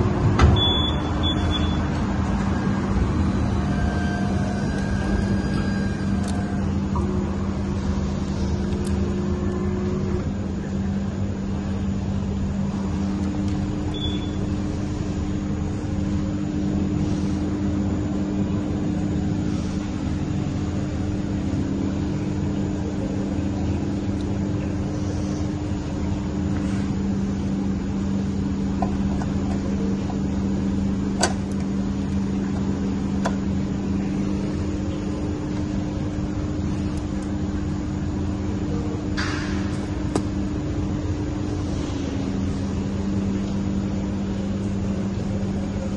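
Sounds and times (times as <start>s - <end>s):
vending machine mechanical hum: 0.0s - 45.9s.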